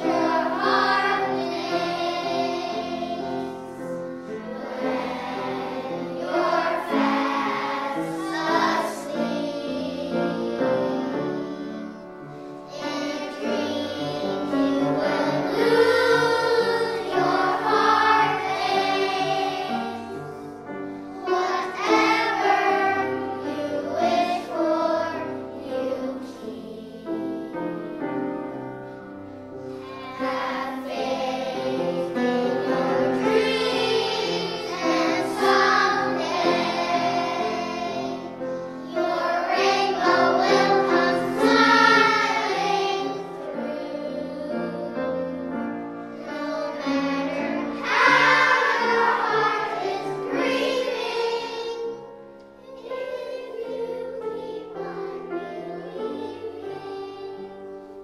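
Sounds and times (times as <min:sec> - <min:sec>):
children's choir singing: 0:00.0 - 0:58.0
musical accompaniment: 0:00.0 - 0:58.0.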